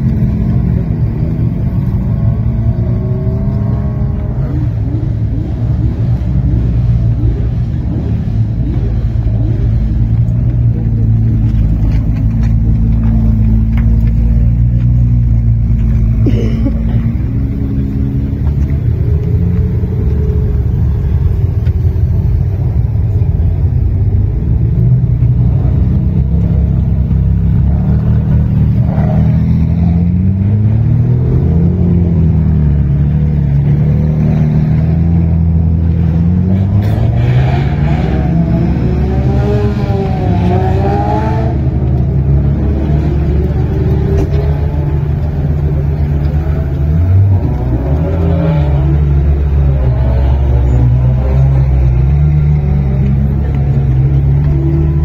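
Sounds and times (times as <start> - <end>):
car engines running at low revs: 0.0 - 55.0.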